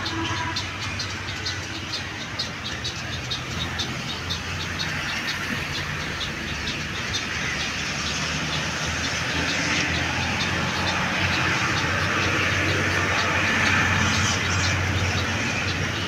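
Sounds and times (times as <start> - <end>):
bird chirping: 0.0 - 16.0
road traffic rumble: 0.0 - 16.0.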